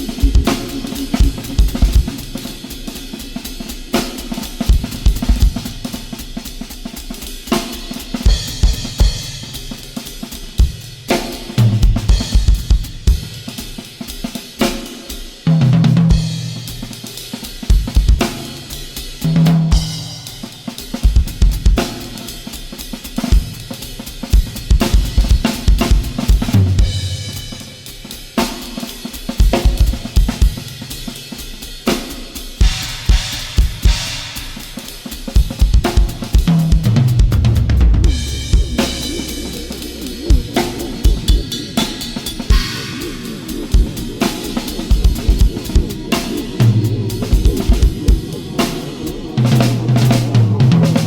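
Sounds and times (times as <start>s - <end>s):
cymbals and hi-hat ringing: 0.0s - 15.5s, 16.2s - 51.0s
drum kit playing: 0.0s - 51.0s.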